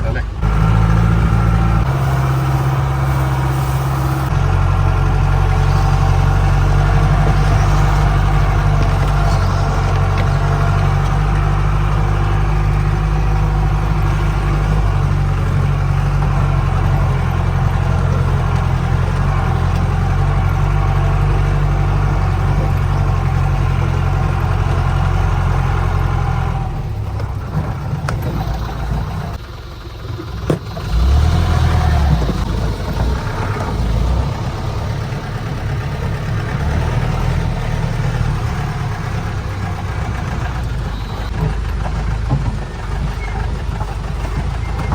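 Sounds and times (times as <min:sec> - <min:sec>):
jeep engine running under load: 0:00.0 - 0:44.9.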